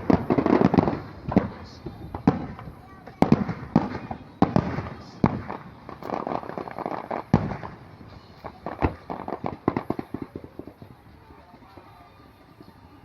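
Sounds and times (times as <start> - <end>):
deep fireworks boom: 0.0 - 13.0
fireworks bangs: 0.0 - 13.0
fireworks crackling: 0.0 - 13.0.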